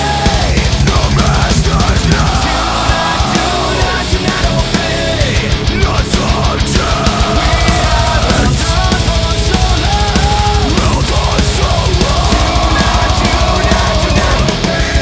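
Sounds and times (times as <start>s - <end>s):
driving drum beat: 0.0s - 15.0s
heavy rock music: 0.0s - 15.0s.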